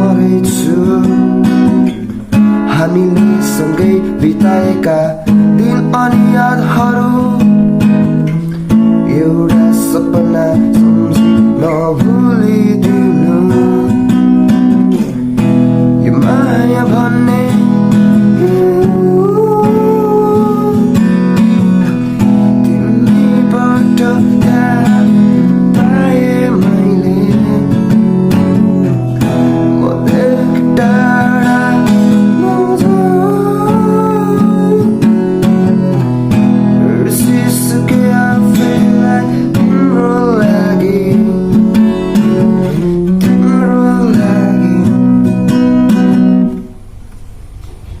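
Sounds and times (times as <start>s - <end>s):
strummed acoustic guitar music: 0.0s - 48.0s.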